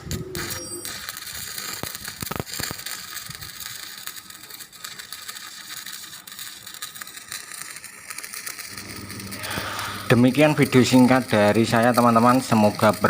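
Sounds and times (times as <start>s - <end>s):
crackling hiss: 0.0s - 13.0s.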